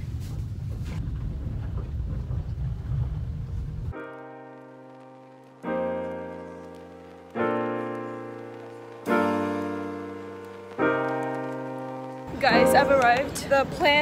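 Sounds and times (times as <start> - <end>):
piano chords: 1.6 - 14.0.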